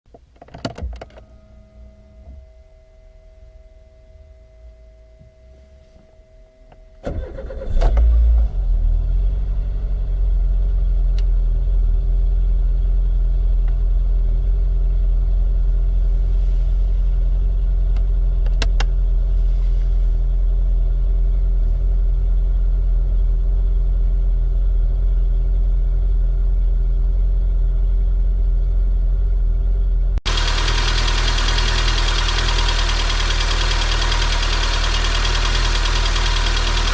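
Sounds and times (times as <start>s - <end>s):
car engine starting and idling: 5.5s - 36.9s.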